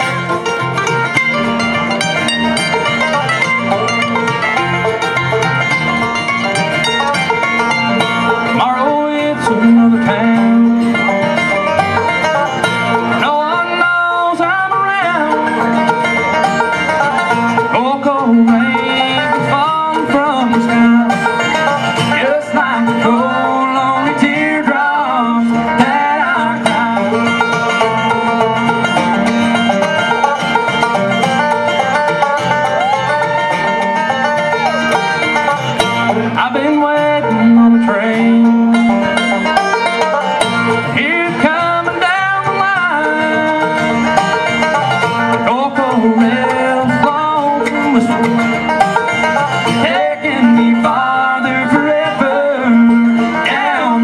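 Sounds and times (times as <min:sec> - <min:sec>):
bluegrass band playing: 0:00.0 - 0:54.0.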